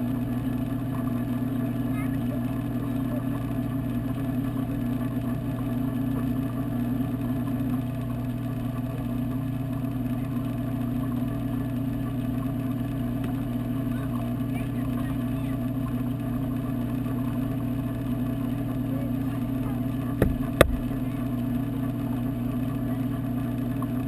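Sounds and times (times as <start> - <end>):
aquarium pumps humming underwater: 0.0 - 24.0.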